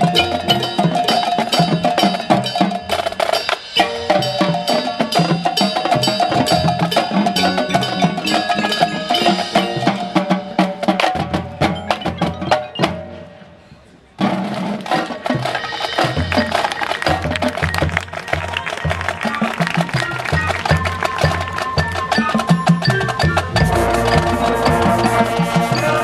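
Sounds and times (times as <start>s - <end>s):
marching band percussion: 0.0s - 13.4s, 14.2s - 26.0s.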